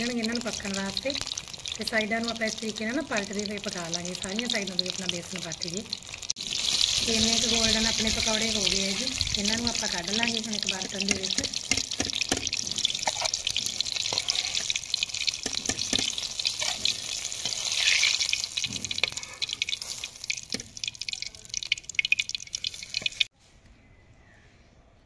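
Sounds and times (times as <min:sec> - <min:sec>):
hot oil sizzling and crackling: 0:00.0 - 0:23.3.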